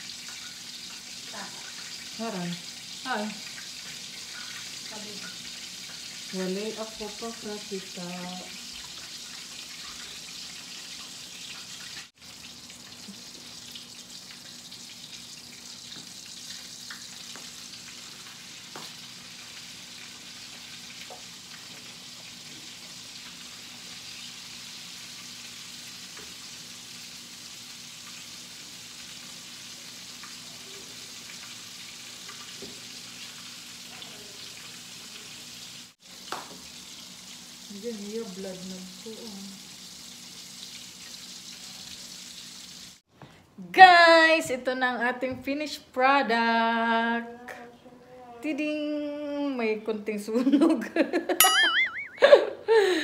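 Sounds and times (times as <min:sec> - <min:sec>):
chicken sizzling in hot oil: 0:00.0 - 0:43.1.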